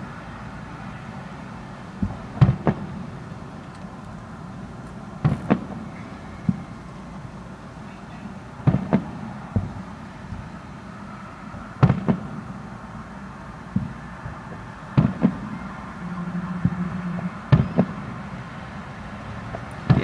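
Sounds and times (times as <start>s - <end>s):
background rumble: 0.0s - 20.0s
distant fireworks bangs: 1.9s - 4.0s, 4.6s - 20.0s.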